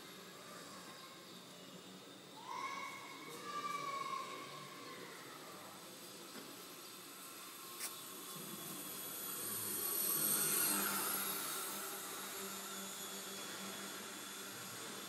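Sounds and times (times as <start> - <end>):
model plane motor and propeller whining: 0.0 - 15.0.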